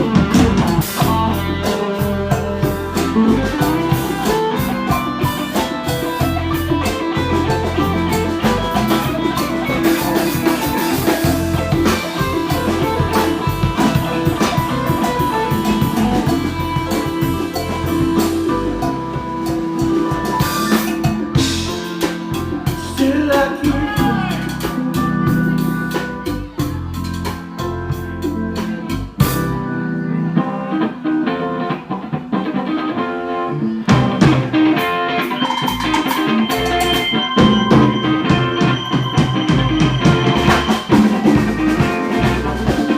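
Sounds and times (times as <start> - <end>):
drum kit: 0.0 - 42.9
electric guitar: 0.0 - 42.9.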